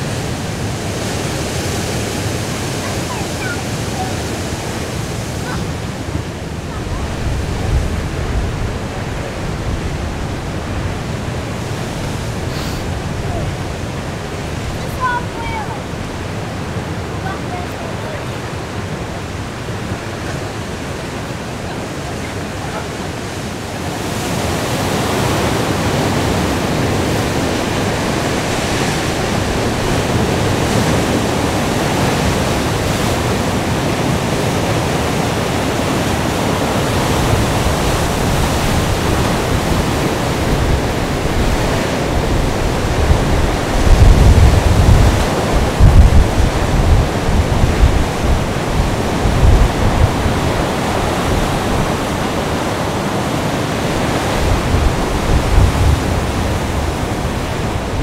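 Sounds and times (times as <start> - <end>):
sea surf breaking: 0.0 - 58.0
wind buffeting microphone: 0.0 - 58.0.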